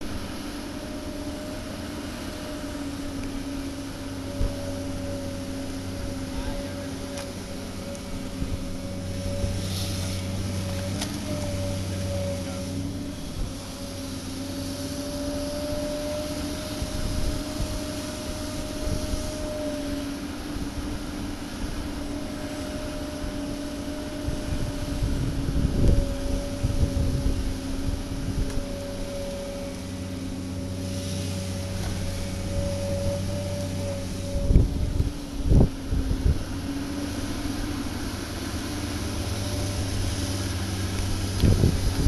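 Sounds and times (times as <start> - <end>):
excavator engines humming: 0.0 - 42.0
low rumble: 0.0 - 42.0
steady pitched tone: 0.0 - 42.0.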